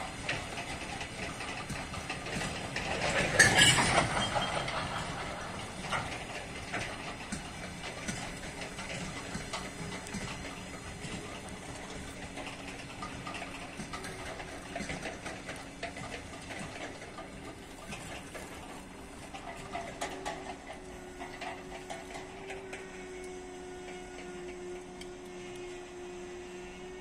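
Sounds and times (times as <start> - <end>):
wagon wheels clicking and clanking: 0.0 - 25.8
diesel locomotive engine droning: 0.0 - 27.0.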